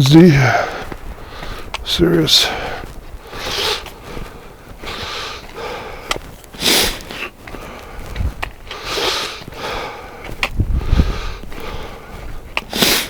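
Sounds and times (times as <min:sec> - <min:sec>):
person breathing hard: 0:00.4 - 0:13.0.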